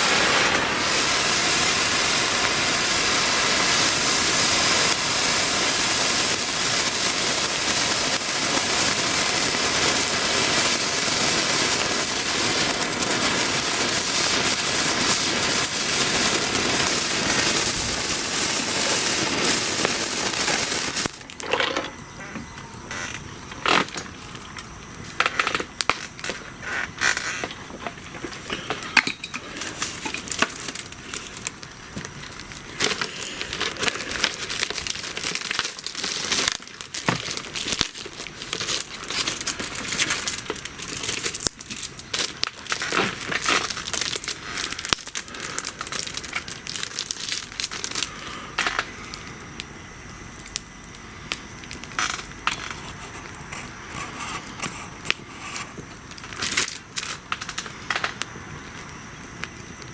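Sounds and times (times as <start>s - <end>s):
sharp fire pops: 0.0s - 21.5s, 22.9s - 59.9s
bonfire crackling: 0.0s - 59.9s.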